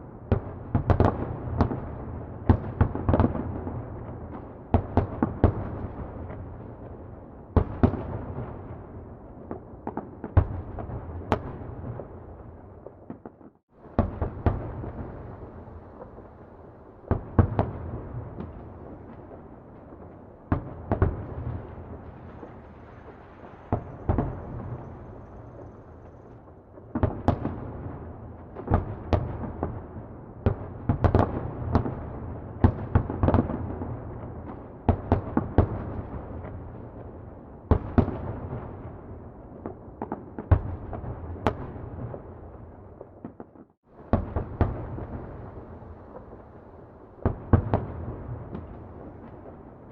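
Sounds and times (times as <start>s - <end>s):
distant fireworks exploding: 0.0s - 49.9s.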